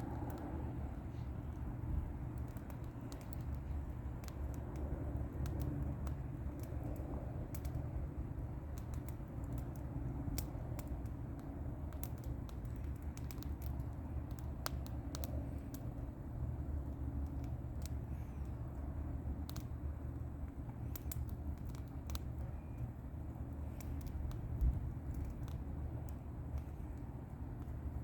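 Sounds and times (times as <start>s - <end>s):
bonfire crackling and popping: 0.0s - 28.0s
low fire rumble: 0.0s - 28.0s.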